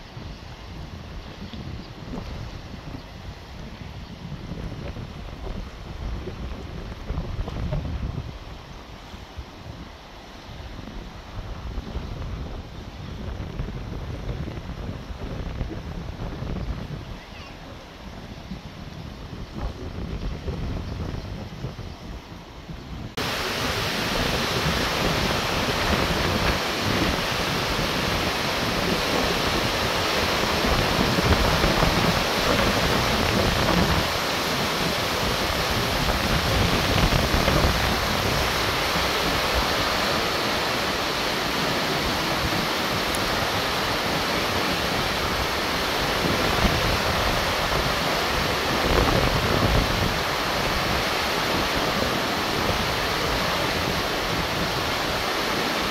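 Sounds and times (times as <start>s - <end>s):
floodwater rushing around bridge piers: 0.0s - 19.4s, 22.2s - 55.9s.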